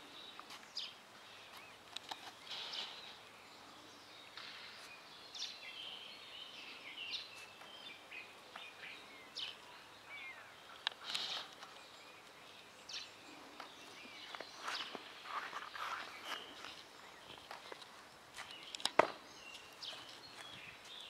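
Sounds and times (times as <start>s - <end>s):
outdoor background noise: 0.0s - 21.0s
small birds chirping: 0.0s - 21.0s.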